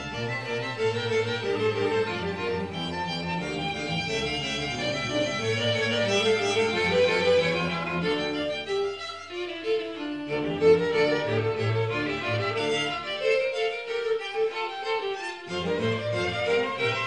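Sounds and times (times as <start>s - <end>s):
string ensemble playing: 0.0s - 17.0s.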